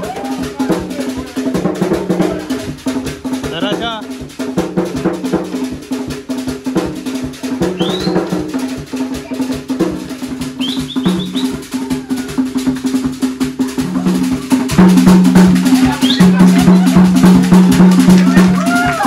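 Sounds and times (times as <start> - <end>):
hand drums playing fast rhythm: 0.0 - 19.0.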